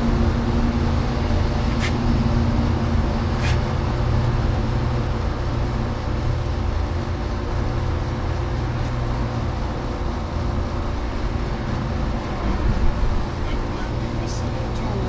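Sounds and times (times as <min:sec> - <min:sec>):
low mechanical motor hum: 0:00.0 - 0:15.0.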